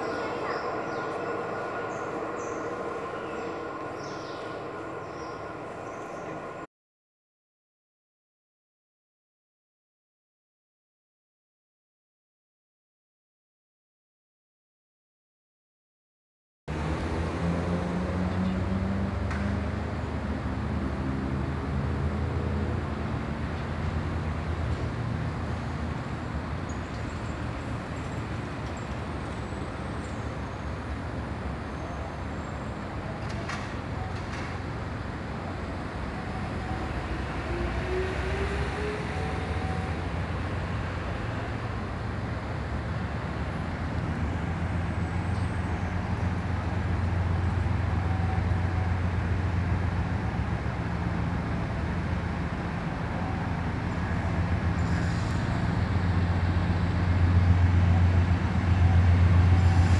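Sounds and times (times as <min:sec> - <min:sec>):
diesel locomotive engine drone: 0:00.0 - 0:06.7, 0:16.7 - 0:59.9.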